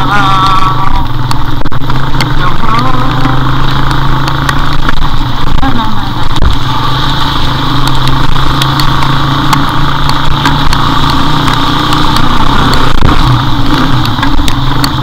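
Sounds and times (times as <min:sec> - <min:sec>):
motorcycle engine running: 0:00.0 - 0:15.0
wind noise: 0:00.0 - 0:15.0
sharp ticks: 0:00.2 - 0:06.2, 0:07.7 - 0:15.0.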